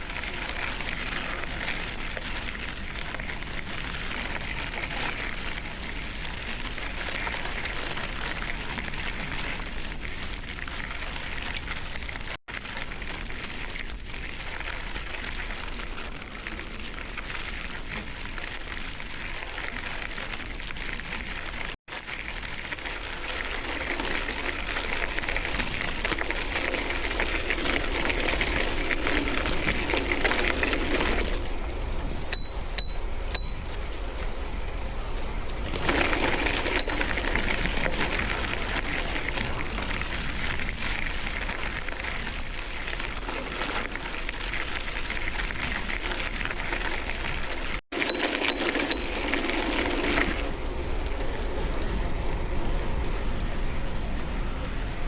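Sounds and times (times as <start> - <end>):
bicycle tyres on road: 0.0 - 55.0.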